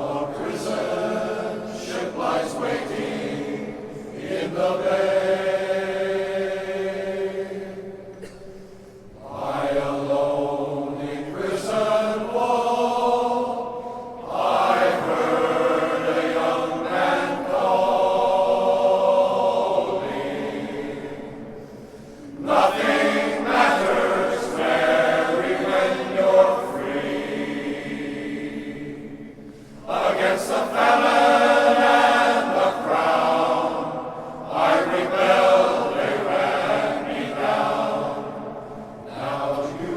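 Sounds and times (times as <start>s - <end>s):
men's choir singing: 0.0s - 8.5s, 9.2s - 39.9s.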